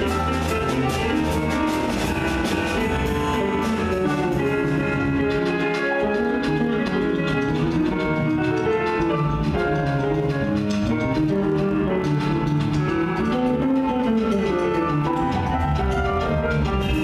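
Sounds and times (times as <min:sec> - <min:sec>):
drum kit strokes: 0:00.0 - 0:17.0
jazz band playing: 0:00.0 - 0:17.0.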